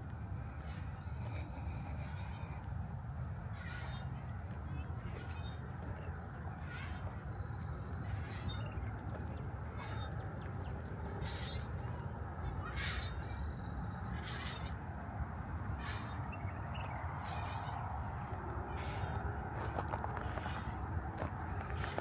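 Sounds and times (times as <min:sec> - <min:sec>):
low background rumble: 0:00.0 - 0:22.0
birds making harsh calls: 0:00.4 - 0:22.0.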